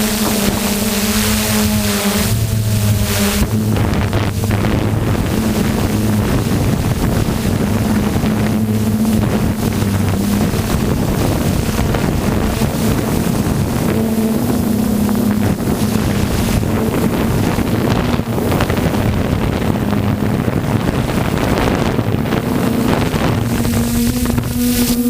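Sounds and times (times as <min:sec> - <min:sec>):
engine humming: 0:00.0 - 0:25.0
wind noise on microphone: 0:00.0 - 0:25.0.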